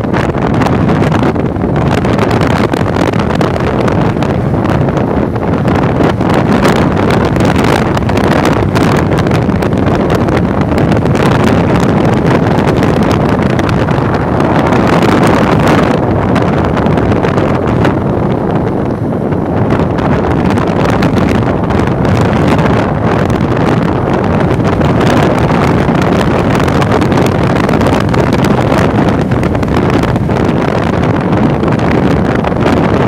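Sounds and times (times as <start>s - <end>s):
road and vehicle noise: 0.0s - 33.0s
wind buffeting microphone: 0.0s - 33.0s.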